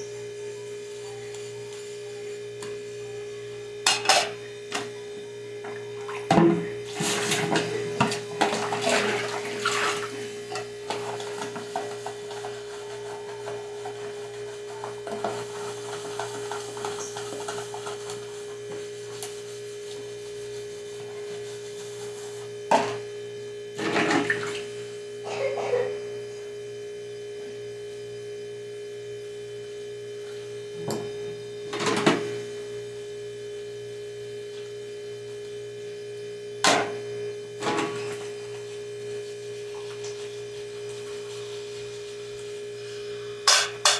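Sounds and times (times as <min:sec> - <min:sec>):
steady high hum: 0:00.0 - 0:43.9.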